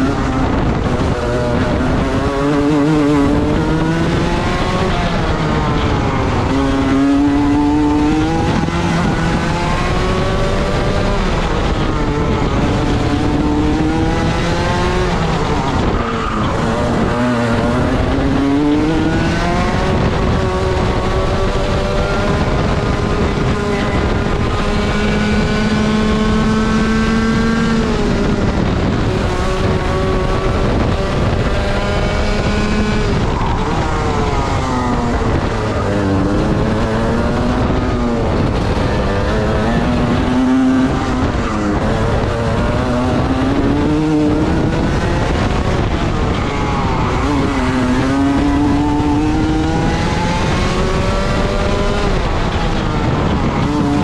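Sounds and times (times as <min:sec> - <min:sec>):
racing kart engine at high revs: 0:00.0 - 0:54.0.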